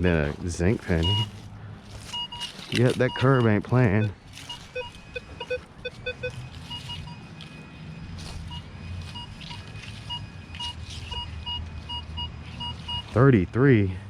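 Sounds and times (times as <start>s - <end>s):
metal detector beeping: 0.9s - 1.4s, 2.1s - 13.8s.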